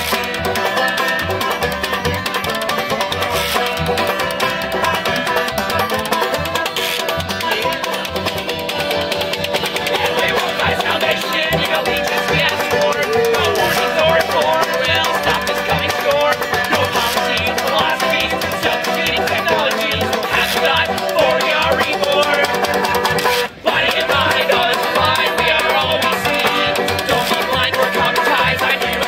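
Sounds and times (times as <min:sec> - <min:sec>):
accordion: 0:00.0 - 0:29.0
banjo: 0:00.0 - 0:29.0
washboard scraping: 0:00.0 - 0:29.0.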